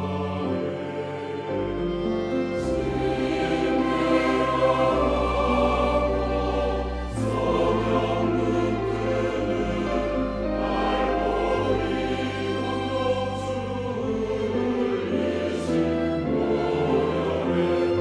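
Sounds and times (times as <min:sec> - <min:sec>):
choir singing a hymn: 0:00.0 - 0:18.0
organ piano and strings: 0:00.0 - 0:18.0.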